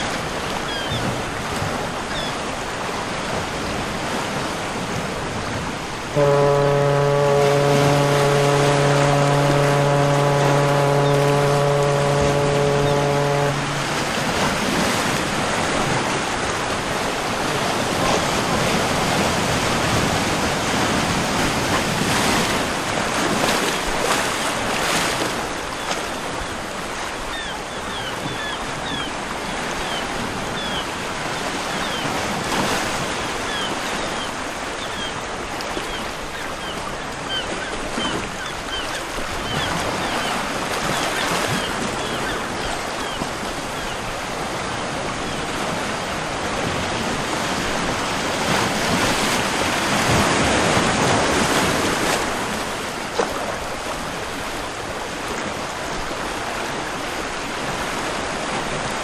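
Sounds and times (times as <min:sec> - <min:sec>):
water rushing: 0:00.0 - 0:59.0
wind: 0:00.0 - 0:59.0.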